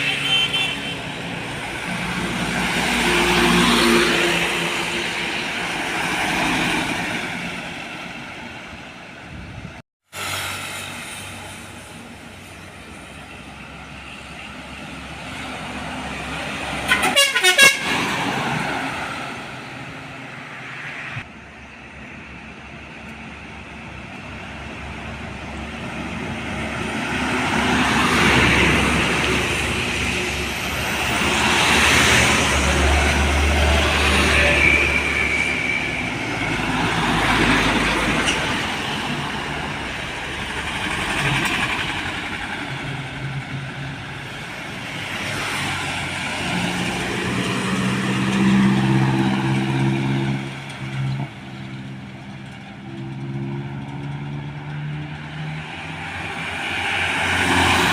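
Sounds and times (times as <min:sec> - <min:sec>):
trucks passing on a road: 0:00.0 - 0:57.9.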